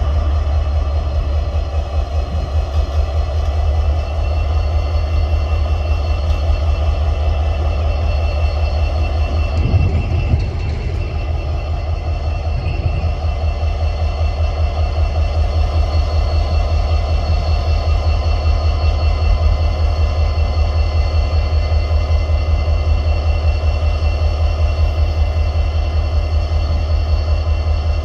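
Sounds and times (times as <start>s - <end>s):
diesel locomotive engine rumbling: 0.0s - 28.0s.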